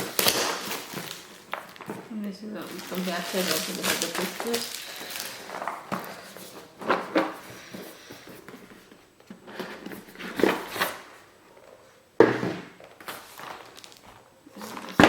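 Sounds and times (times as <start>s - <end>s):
cardboard boxes rustling: 0.0s - 15.0s.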